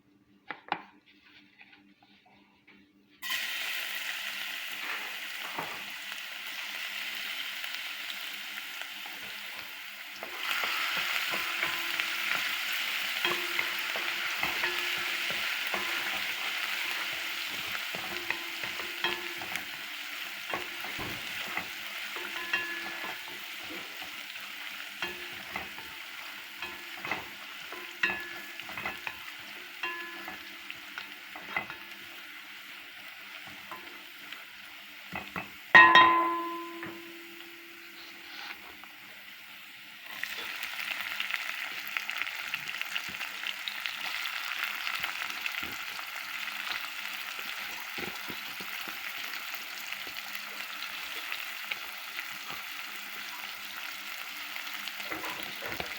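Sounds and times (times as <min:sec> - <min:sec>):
food sizzling in a pan: 0:03.2 - 0:55.9.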